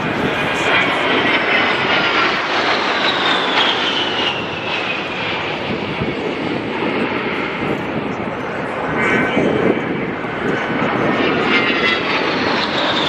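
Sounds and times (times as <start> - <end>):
jet fly-by with high whine: 0.0 - 13.0.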